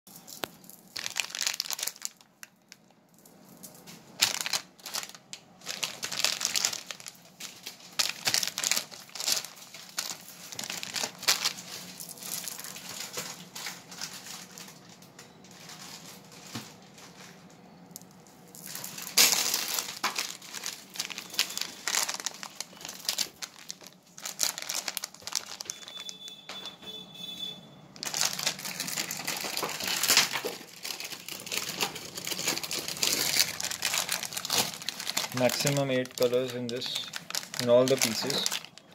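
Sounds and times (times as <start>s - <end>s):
plastic packets crinkling: 0.1s - 26.8s, 27.9s - 38.9s.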